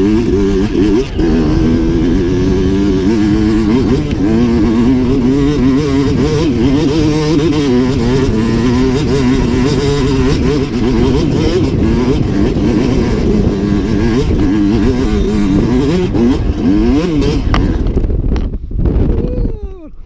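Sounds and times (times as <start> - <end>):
dirt bike engine revving: 0.0 - 18.4.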